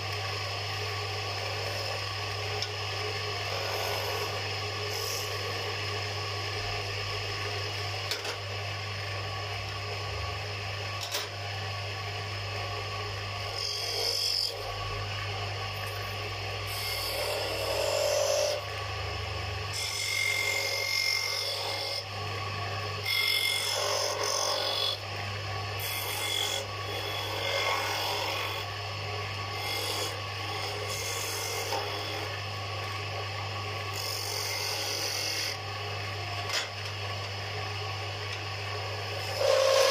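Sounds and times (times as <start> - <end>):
lathe motor hum: 0.0 - 39.9.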